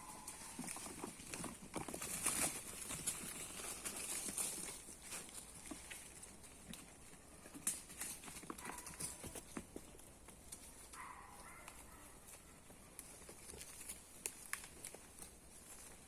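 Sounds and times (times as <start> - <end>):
goat hooves on forest floor: 0.0 - 16.0.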